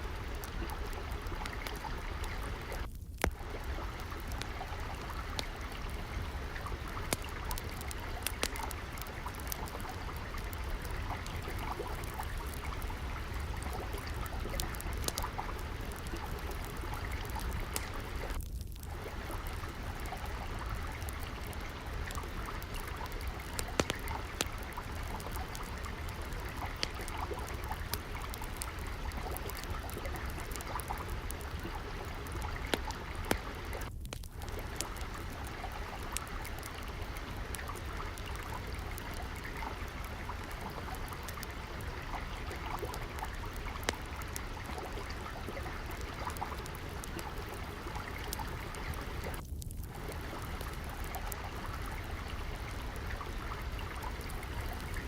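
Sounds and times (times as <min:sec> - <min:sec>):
water trickling: 0:00.0 - 0:55.0
wood fire crackling: 0:00.0 - 0:55.0.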